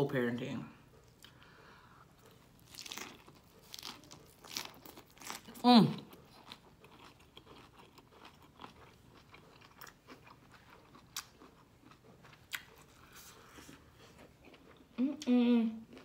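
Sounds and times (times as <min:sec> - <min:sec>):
faint chewing: 0:00.9 - 0:16.0.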